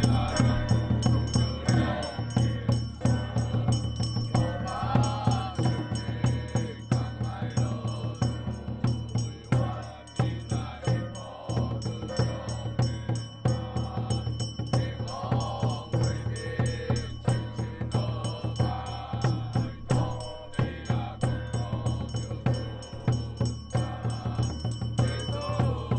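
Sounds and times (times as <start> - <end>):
high ringing tones: 0.0 - 25.9
low drum beats: 0.0 - 25.9
rattling percussion: 0.0 - 25.9.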